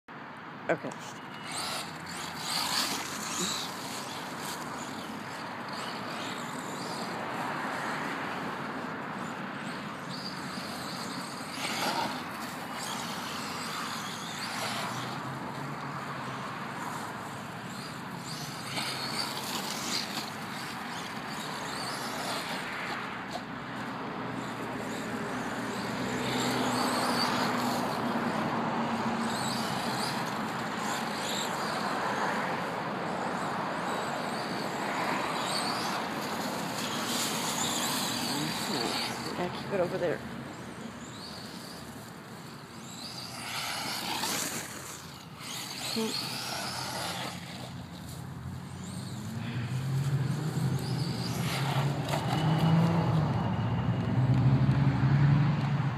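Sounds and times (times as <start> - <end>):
tyres rushing over ground: 0.8 - 49.2
electric motor and gears whining: 0.8 - 54.7.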